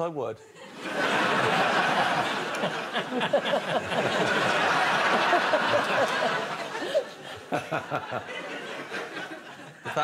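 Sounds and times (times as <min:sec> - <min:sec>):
studio audience laughing: 0:00.6 - 0:10.0.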